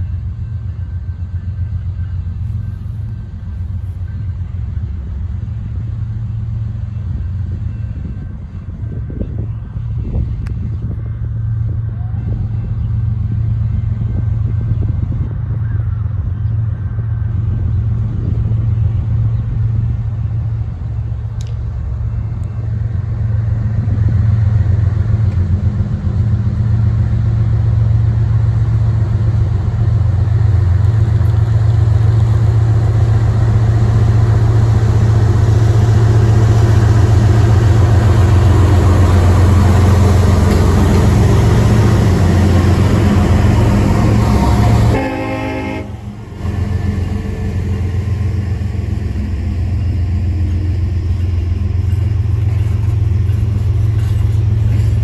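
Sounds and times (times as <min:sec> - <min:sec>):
diesel locomotive engines droning: 0:00.0 - 0:55.0
train wheel and rail rattle: 0:00.0 - 0:55.0.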